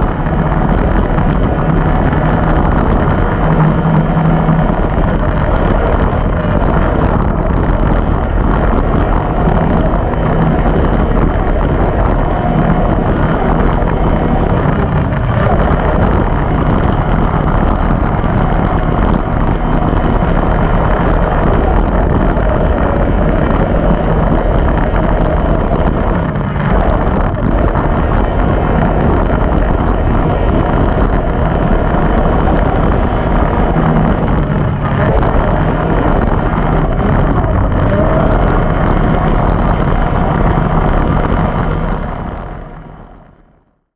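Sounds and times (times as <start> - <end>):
race car engine running hard: 0.0 - 43.9
wind buffeting microphone: 0.0 - 43.9.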